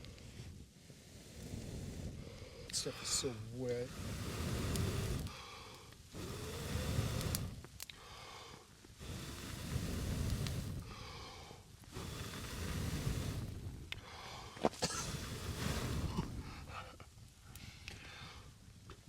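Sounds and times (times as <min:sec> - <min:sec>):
person blowing on ember: 0:00.0 - 0:16.9.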